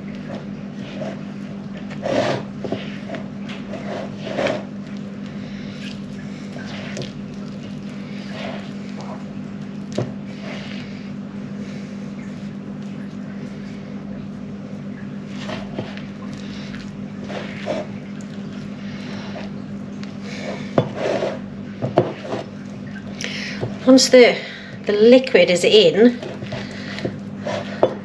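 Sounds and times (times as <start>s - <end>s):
dough squelching and slapping: 0.0s - 28.0s
steady low hum: 0.0s - 28.0s.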